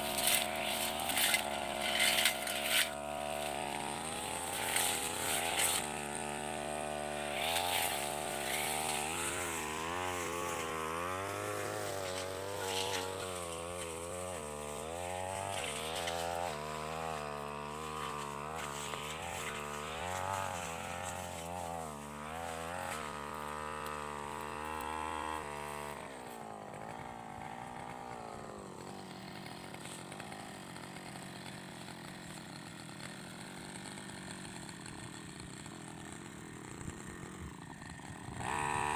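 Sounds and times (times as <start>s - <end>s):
brush cutter engine revving: 0.0s - 38.9s.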